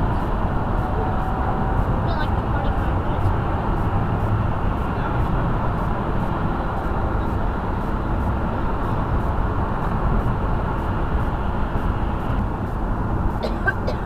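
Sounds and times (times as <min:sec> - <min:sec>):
car engine hum: 0:00.0 - 0:14.0
road and tyre noise: 0:00.0 - 0:14.0.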